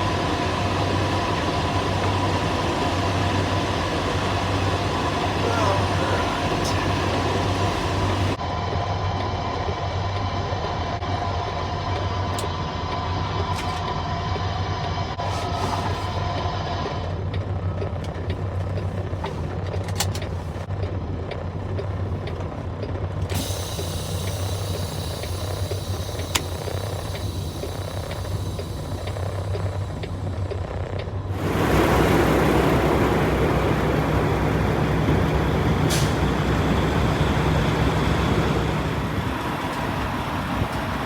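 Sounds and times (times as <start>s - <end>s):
road noise: 0.0s - 41.0s
truck diesel engine running: 0.0s - 41.0s.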